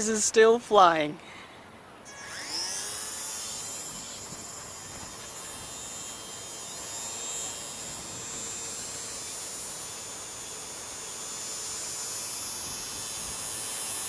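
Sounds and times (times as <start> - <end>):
toy plane motor whining: 2.0 - 14.0.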